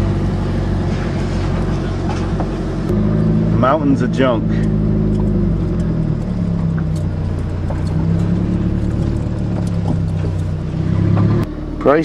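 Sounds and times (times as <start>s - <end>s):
car engine running at low speed: 0.0s - 12.0s.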